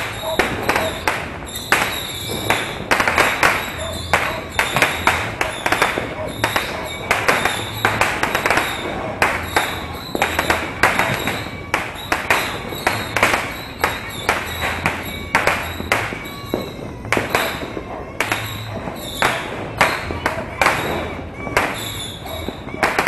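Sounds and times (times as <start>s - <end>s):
firecrackers and fireworks banging: 0.0s - 23.0s.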